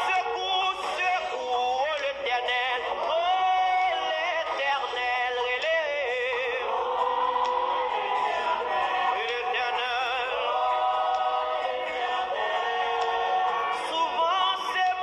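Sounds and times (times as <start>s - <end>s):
man singing into microphone: 0.0s - 6.8s, 8.2s - 15.0s.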